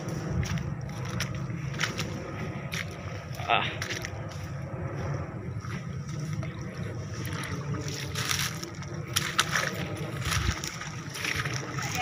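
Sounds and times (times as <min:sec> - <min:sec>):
footsteps through wet undergrowth: 0:00.0 - 0:12.0
microphone rumble: 0:00.0 - 0:12.0.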